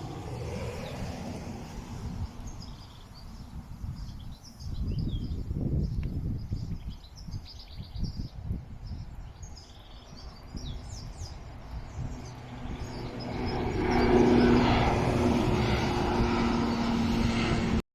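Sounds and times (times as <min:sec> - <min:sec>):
turboprop plane taking off: 0:00.0 - 0:17.8
small birds chirping: 0:02.2 - 0:17.6.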